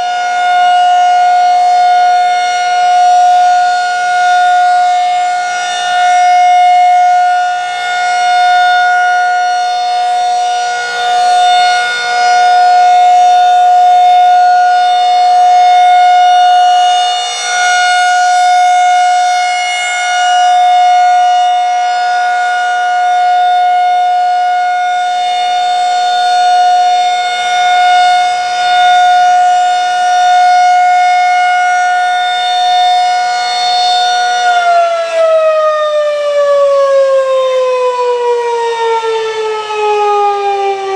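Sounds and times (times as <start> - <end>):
rotating warning siren: 0.0 - 40.9.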